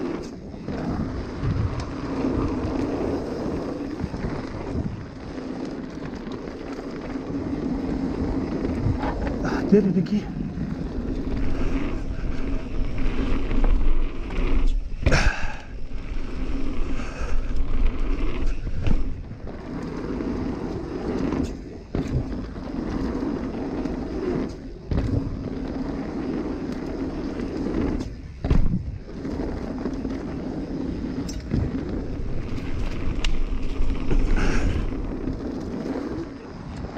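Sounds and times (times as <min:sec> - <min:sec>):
bike knocking and rattling: 0:00.0 - 0:36.9
tyres rolling on dirt: 0:00.0 - 0:36.9
wind rushing past camera: 0:00.0 - 0:36.9.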